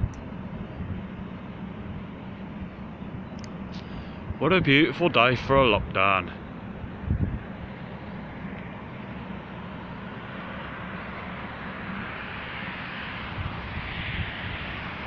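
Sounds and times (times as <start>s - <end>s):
distant vehicle noise: 0.0s - 15.0s.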